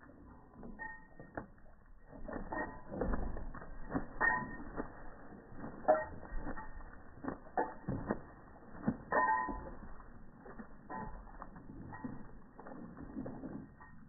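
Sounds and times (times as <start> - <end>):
wooden dock creaking and knocking: 0.6 - 14.0.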